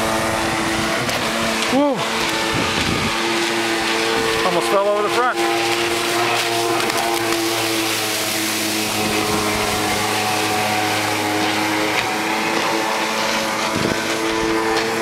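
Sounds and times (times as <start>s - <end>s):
boat engine running: 0.0s - 15.0s
hiss of water and spray: 0.0s - 15.0s.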